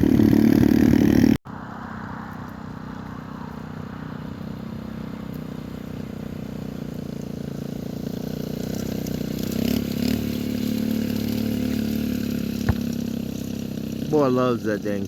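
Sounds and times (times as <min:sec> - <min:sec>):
pit bike engine running: 0:00.0 - 0:01.4, 0:02.4 - 0:15.0.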